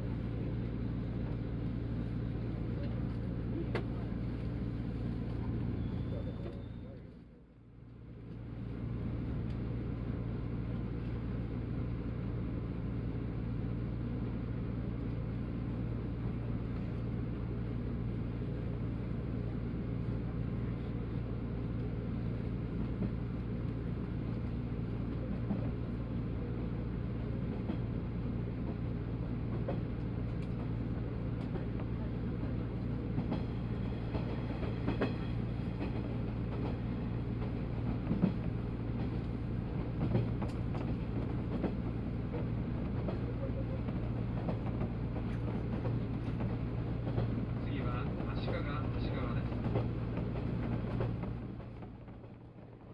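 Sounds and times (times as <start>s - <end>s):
train rumble and hum: 0.0s - 52.9s.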